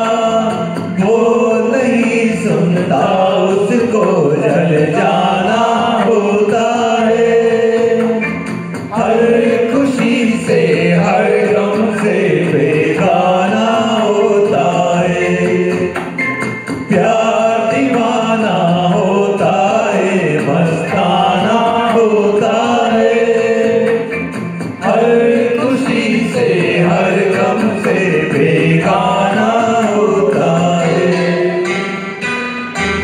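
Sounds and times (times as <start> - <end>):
men singing into microphones: 0.0 - 32.0
musical accompaniment: 0.0 - 33.0.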